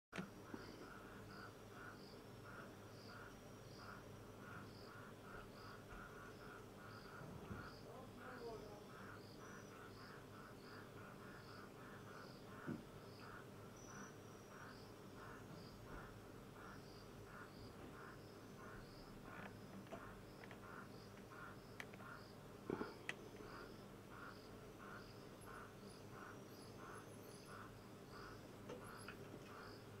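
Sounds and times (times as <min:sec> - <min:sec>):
insects chirping: 0:00.2 - 0:30.0.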